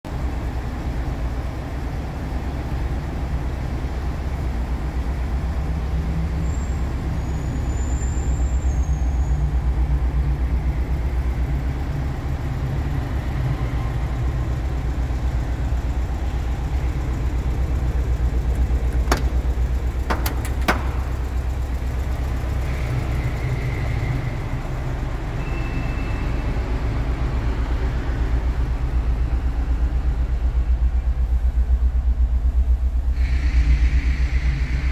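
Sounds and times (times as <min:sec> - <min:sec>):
engine idling: 0:00.1 - 0:34.9.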